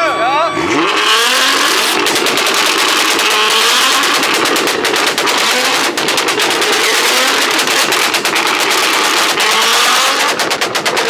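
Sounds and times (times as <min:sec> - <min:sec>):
car engine revving: 0:00.0 - 0:11.0
exhaust crackling and popping: 0:00.6 - 0:11.0.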